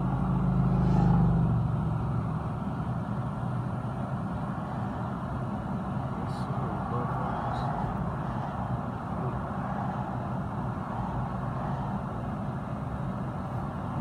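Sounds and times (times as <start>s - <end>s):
car engine drone in cabin: 0.0s - 14.0s
road noise: 0.0s - 14.0s.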